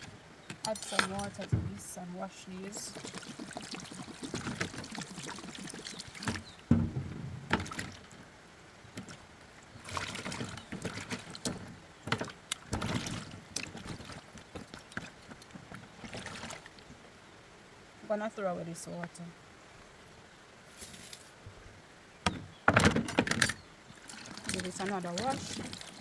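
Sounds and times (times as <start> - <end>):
water sloshing and splashing: 0.0 - 17.2, 22.3 - 26.0.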